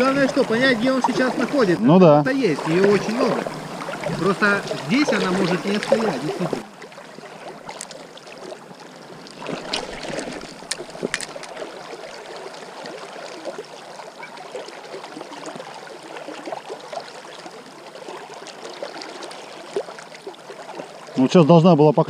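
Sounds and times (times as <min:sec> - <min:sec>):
river rushing over stones: 0:00.0 - 0:20.9.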